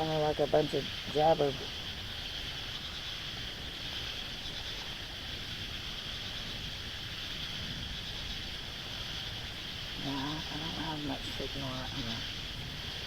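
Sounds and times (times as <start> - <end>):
chorus of night insects: 0.0 - 13.0.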